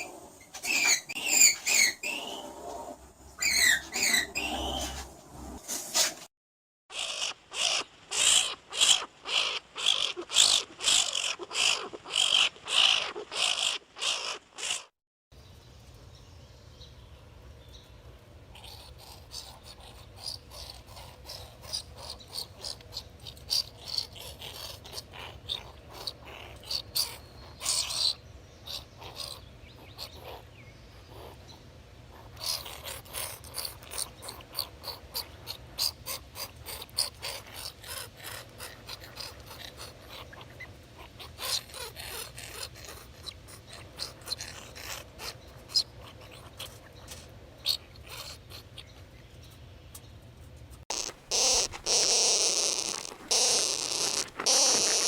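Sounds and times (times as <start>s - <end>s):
skunk squeaking and chattering: 0.0s - 2.8s, 3.4s - 5.0s, 6.9s - 14.9s, 18.4s - 49.6s, 50.9s - 55.0s.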